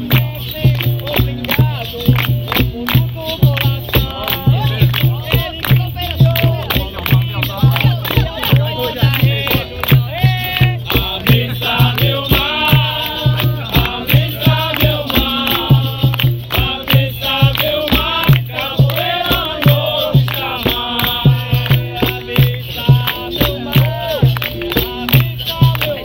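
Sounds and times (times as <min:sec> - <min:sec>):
group call-and-response singing: 0:00.0 - 0:26.0
rattling percussion: 0:00.0 - 0:26.0
steady hand-drum beat: 0:00.0 - 0:26.0.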